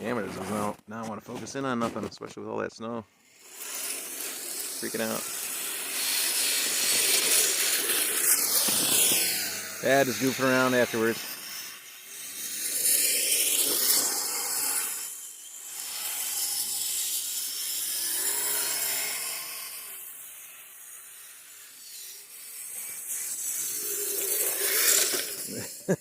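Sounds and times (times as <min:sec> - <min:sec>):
small motors churning through snow: 0:00.0 - 0:02.1, 0:02.8 - 0:26.0
faint wavering motor whine: 0:03.2 - 0:26.0.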